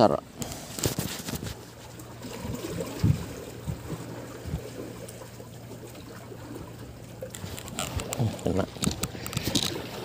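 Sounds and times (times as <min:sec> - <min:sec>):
water lapping against concrete: 0:00.0 - 0:10.0.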